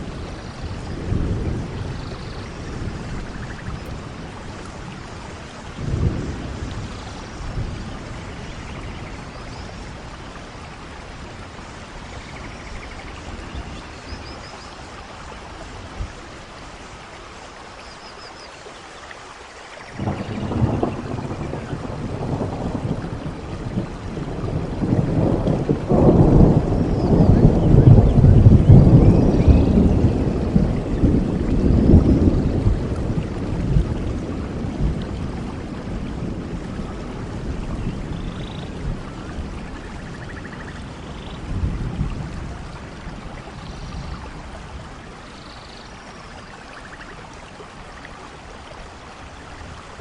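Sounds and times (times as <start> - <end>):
thunder rumbling: 0.0 - 14.4, 19.9 - 46.1
steady rainfall: 0.0 - 50.0.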